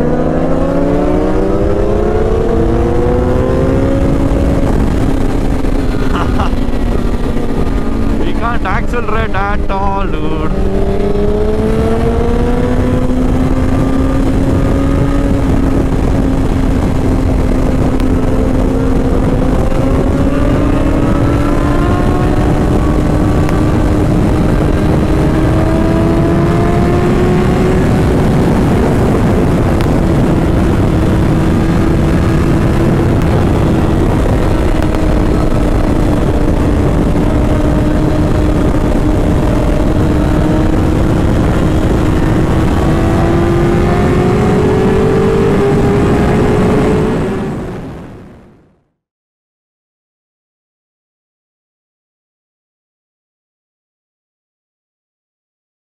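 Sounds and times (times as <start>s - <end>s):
motorcycle engine accelerating: 0.0s - 49.0s
wind rush on microphone: 0.0s - 49.0s.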